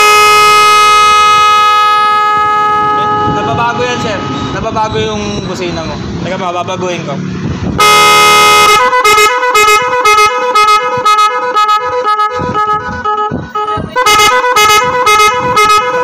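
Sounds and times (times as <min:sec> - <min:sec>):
electric horns beeping: 0:00.0 - 0:06.2, 0:07.8 - 0:16.0.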